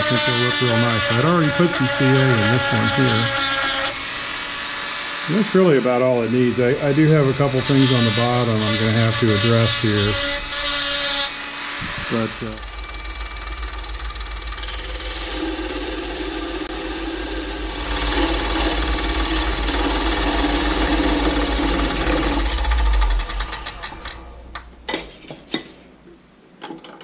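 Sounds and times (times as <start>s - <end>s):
tool cutting wood hissing: 0.0s - 24.3s
lathe motor hum: 0.0s - 24.6s
lathe winding down: 0.0s - 24.7s.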